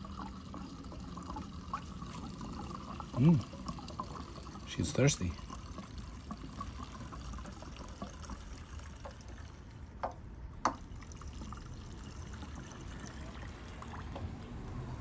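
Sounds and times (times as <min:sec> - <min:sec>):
gasoline pouring into tank: 0:00.0 - 0:15.0.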